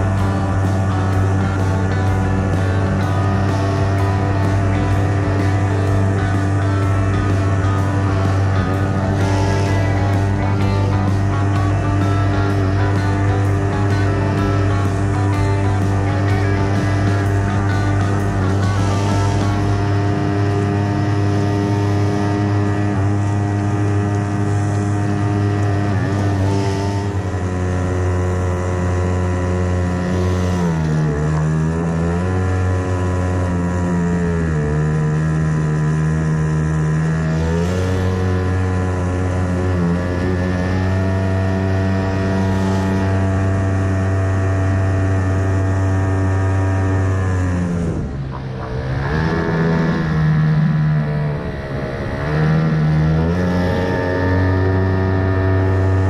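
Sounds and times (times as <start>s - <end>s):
small boat motor running: 0.0s - 56.0s.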